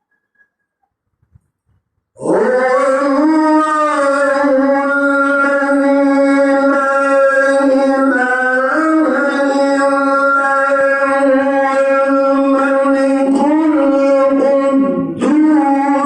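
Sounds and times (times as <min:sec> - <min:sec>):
man reciting melodically: 0:02.2 - 0:16.0.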